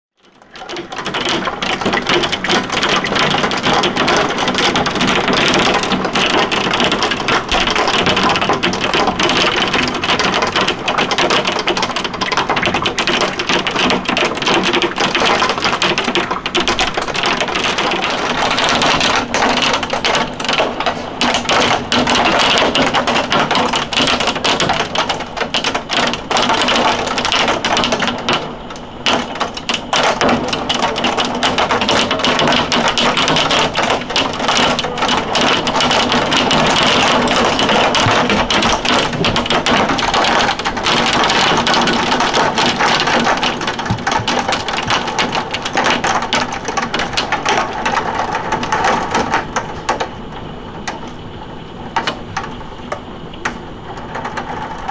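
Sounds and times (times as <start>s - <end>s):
hailstones rattling: 0.2s - 54.9s
heavy rain rushing: 0.2s - 54.9s.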